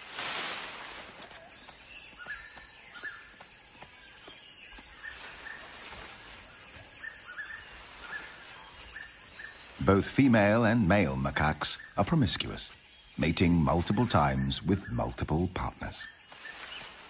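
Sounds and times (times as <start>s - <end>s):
faint bird chirps: 1.0s - 17.0s.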